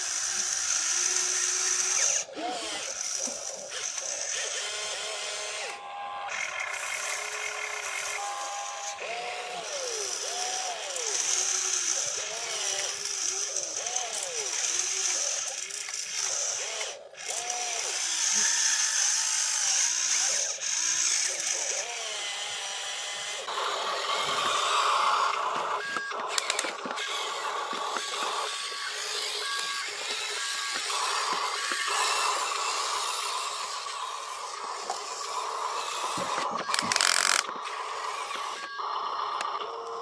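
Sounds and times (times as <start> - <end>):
toy excavator motors whining: 0.0 - 40.0.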